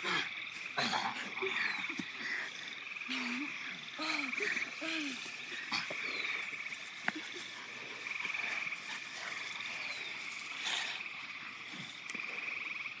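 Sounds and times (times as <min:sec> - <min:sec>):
high trilling animal chorus: 0:00.0 - 0:13.0.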